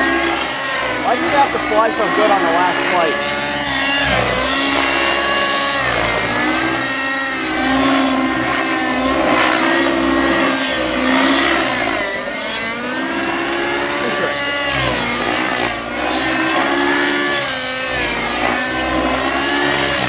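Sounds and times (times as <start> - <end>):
model helicopter engine and rotor: 0.0 - 20.0.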